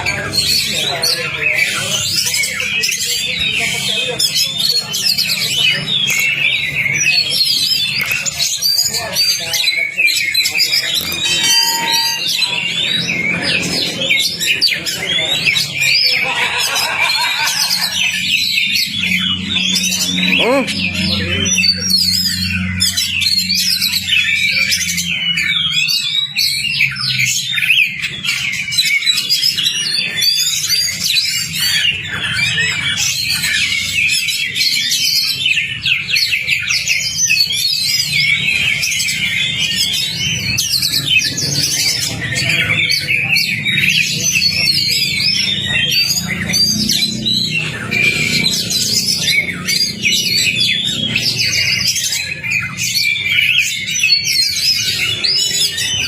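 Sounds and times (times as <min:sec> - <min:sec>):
bird song whistles and trills: 0:00.0 - 0:56.0.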